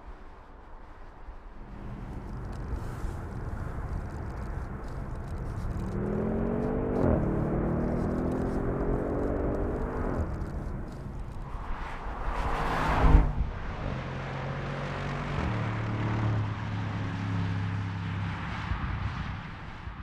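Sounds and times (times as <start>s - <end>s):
car engine accelerating: 1.6s - 19.0s.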